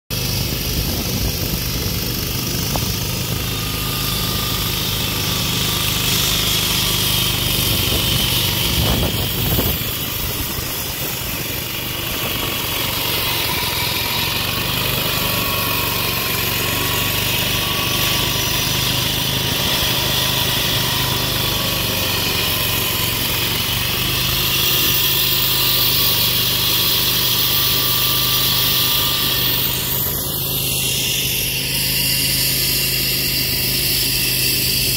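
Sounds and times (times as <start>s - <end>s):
concrete saw cutting concrete: 0.1s - 34.9s.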